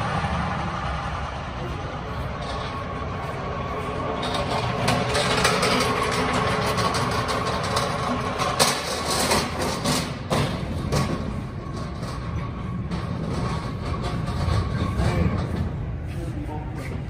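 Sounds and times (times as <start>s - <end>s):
pallet jack wheels rumbling on concrete: 0.0s - 17.0s.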